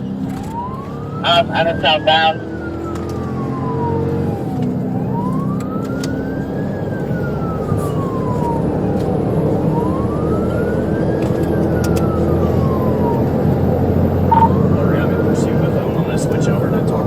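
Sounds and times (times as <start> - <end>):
police siren wailing: 0.0 - 17.0
vehicle engine and road noise: 0.0 - 17.0.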